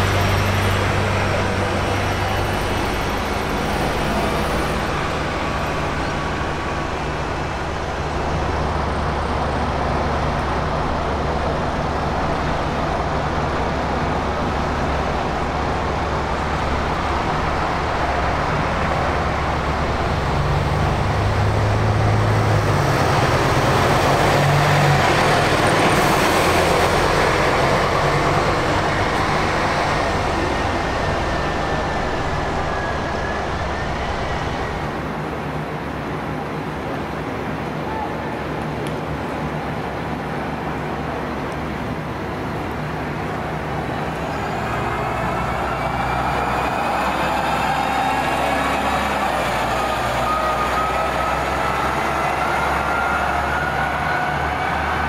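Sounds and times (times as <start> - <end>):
bus engines running: 0.0 - 55.0.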